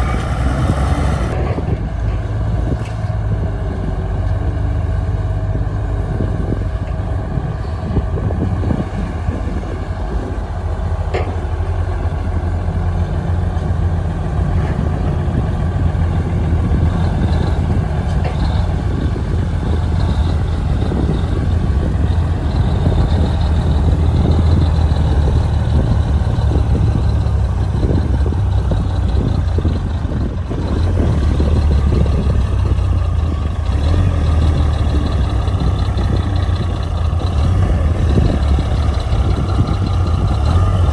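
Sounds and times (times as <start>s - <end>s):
bulldozer diesel engine rumbling: 0.0s - 40.9s.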